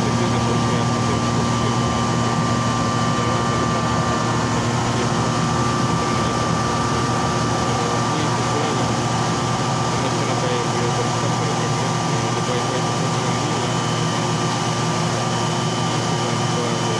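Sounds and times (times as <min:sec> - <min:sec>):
high whine: 0:00.0 - 0:16.9
machine mechanical hum: 0:00.0 - 0:16.9.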